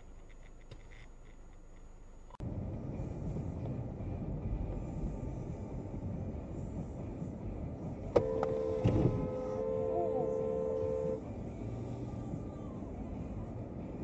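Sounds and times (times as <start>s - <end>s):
car driving rumble: 0.0s - 14.0s
faint low road noise: 0.0s - 14.0s.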